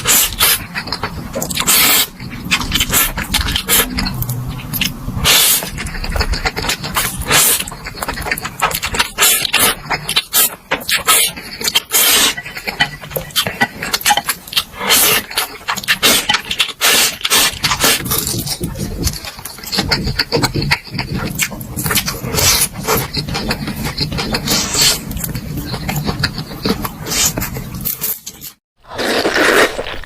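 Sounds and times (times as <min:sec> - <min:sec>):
close-miked chewing: 0:00.0 - 0:30.0.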